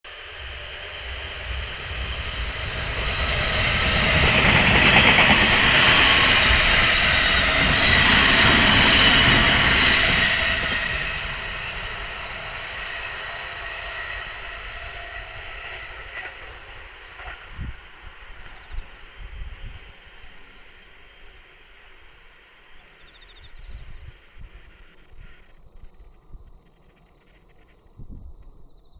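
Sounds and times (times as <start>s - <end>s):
electric train passing on rails: 0.1s - 27.9s.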